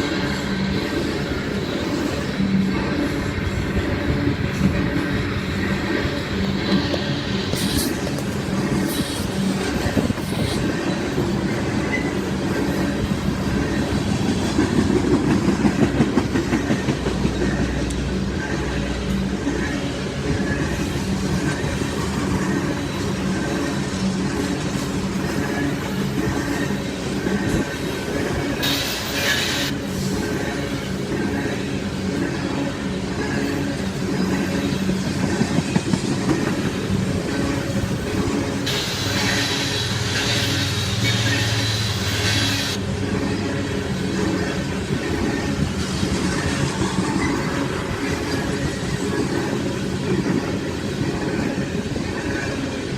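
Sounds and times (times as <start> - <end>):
clickety-clack over rail joints: 0.0 - 52.9
train wheels rumbling on rail: 0.0 - 52.9.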